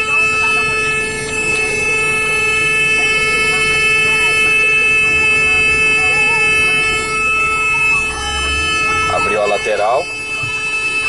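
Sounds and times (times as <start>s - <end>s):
diesel engine rumble: 0.0s - 11.0s
steady high-pitched tones: 0.0s - 11.0s.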